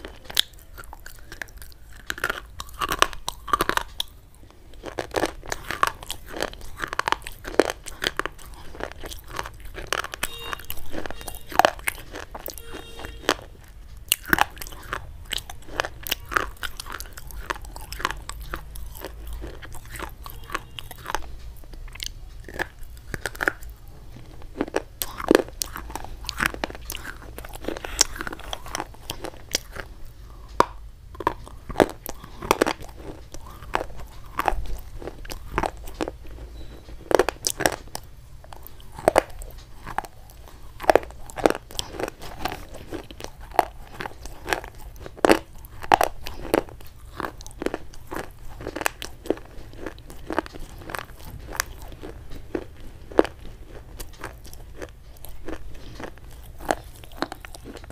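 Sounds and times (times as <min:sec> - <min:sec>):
chewing brittle sticks: 0:00.0 - 0:57.9.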